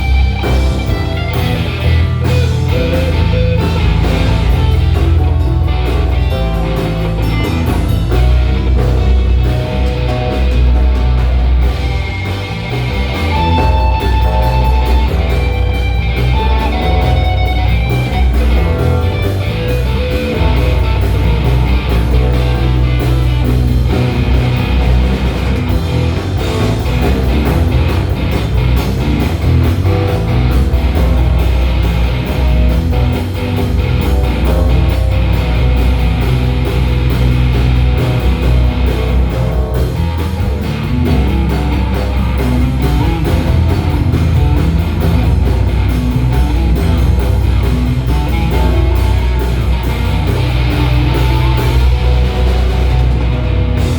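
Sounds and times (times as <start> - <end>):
drums: 0.0 - 53.9
electric guitar: 0.0 - 53.9
heavy bass line: 0.0 - 53.9
keyboard: 0.0 - 53.9.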